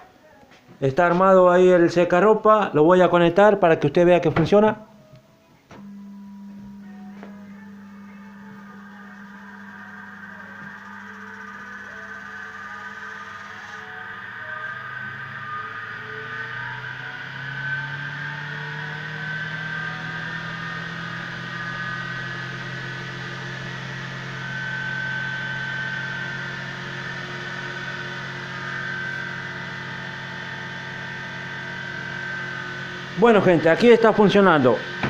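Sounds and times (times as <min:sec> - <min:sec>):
spin dryer motor humming: 0:05.6 - 0:35.0.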